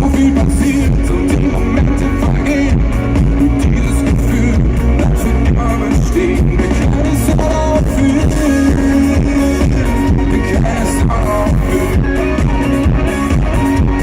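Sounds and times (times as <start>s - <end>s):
pop-rock band music: 0.0s - 14.0s.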